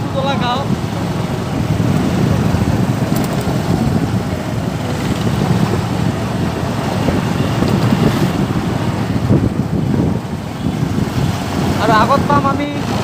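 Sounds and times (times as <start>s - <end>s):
vehicle rumble: 0.0s - 13.0s
wind buffeting microphone: 0.0s - 13.0s.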